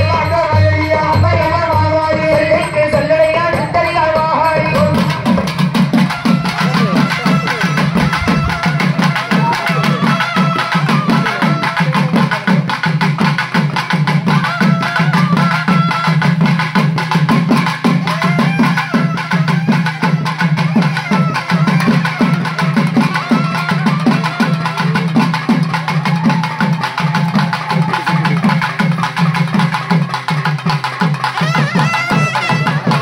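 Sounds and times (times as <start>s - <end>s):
loud fast drumming: 0.0s - 33.0s.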